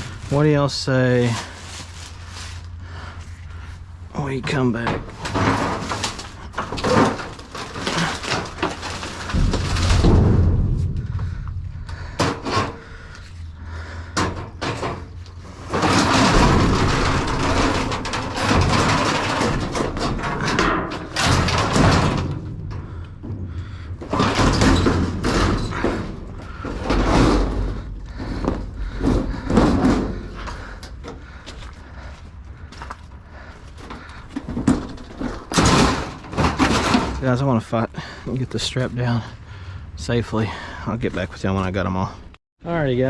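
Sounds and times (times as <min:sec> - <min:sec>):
scraping and rustling: 0:00.0 - 0:37.3
scrap metal knocks and bangs: 0:00.0 - 0:39.8.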